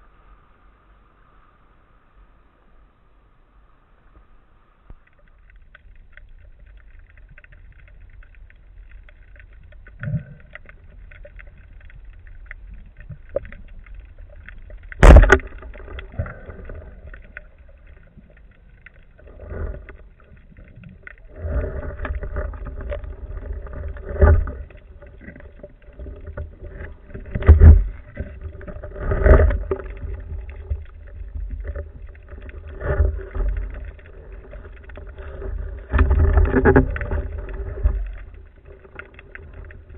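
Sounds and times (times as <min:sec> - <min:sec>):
water noise: 0:00.0 - 0:39.9.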